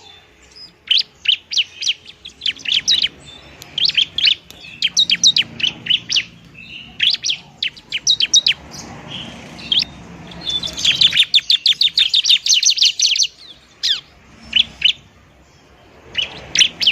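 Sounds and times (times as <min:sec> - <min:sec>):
bird chirping: 0:00.0 - 0:16.9.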